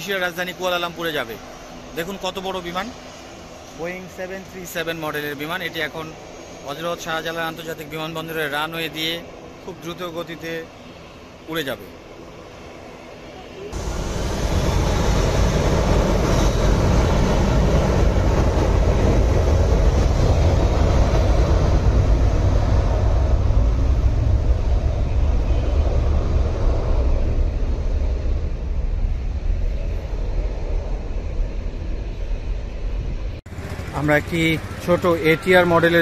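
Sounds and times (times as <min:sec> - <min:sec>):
jet engines rumbling with hiss: 0:00.0 - 0:36.0.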